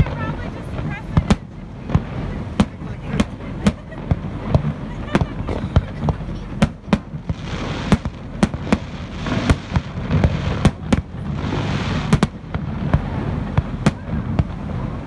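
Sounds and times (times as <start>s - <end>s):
firework shells bursting: 1.1s - 14.6s.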